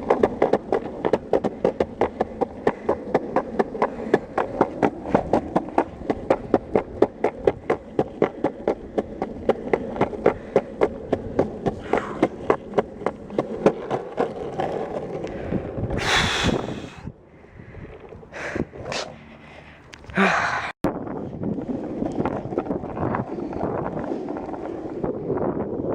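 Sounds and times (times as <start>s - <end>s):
longboard wheels clacking: 0.0s - 20.2s, 21.0s - 25.9s
longboard scraping rush: 0.0s - 25.9s.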